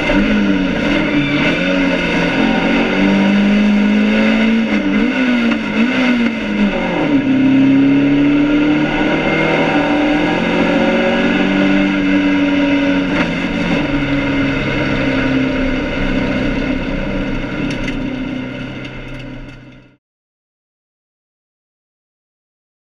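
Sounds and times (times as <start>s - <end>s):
race car engine running hard: 0.0s - 20.0s.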